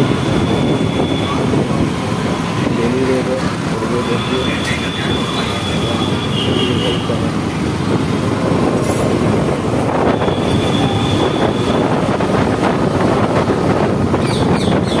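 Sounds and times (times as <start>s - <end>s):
wind buffeting microphone: 0.0s - 4.0s, 5.2s - 15.0s.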